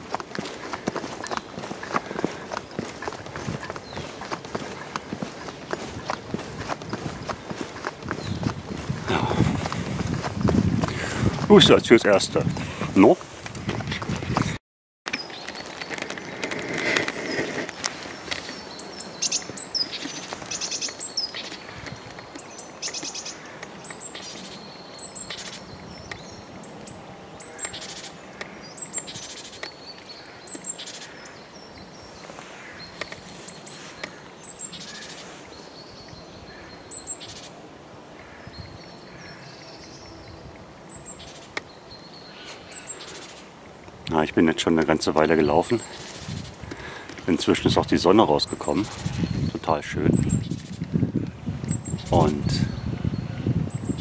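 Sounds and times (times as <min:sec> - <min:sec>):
footsteps on forest path: 0:00.0 - 0:37.4, 0:38.2 - 0:49.8
songbirds chirping: 0:00.0 - 0:54.0.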